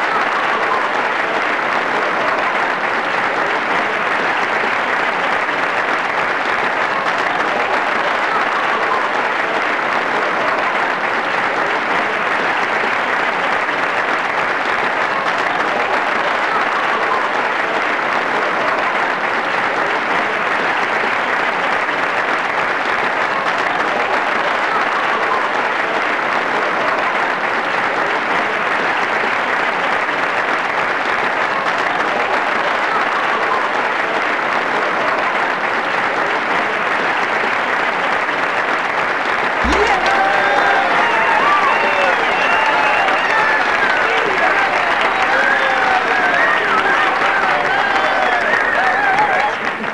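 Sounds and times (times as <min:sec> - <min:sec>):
crowd applause: 0:00.0 - 0:49.9.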